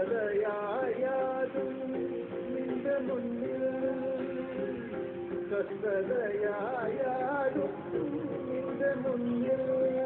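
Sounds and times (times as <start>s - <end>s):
man singing devotional song: 0.0s - 10.0s.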